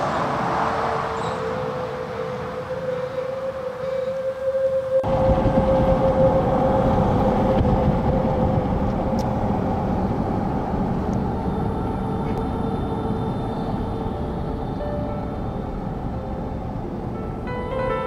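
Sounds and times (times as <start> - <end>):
car road and wind noise: 0.0 - 3.8, 4.5 - 18.0.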